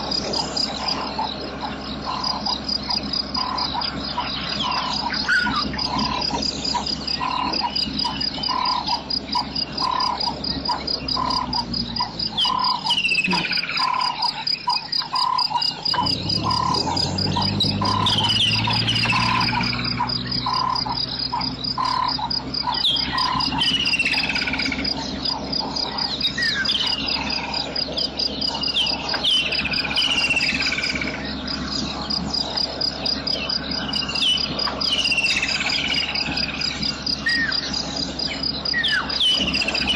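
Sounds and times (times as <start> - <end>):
low hum: 0.0 - 39.9
falling whistled bird calls: 0.2 - 32.5, 33.1 - 39.9
fast insect trill: 2.0 - 39.9.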